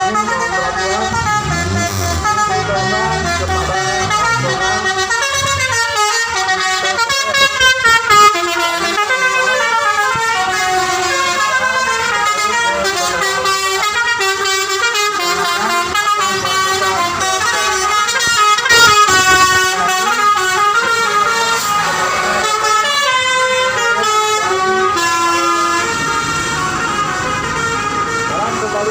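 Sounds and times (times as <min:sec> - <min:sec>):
multi-tone bus air horns: 0:00.0 - 0:28.9.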